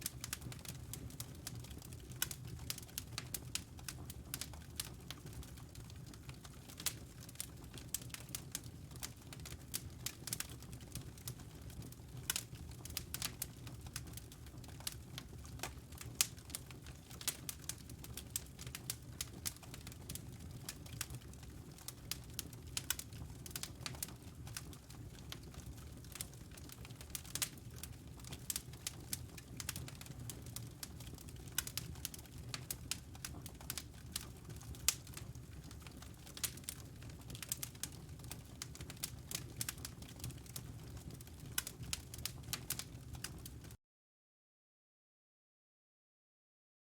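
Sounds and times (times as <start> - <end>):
fire crackling and popping: 0.0 - 43.8
low rumble of flames: 0.0 - 43.8.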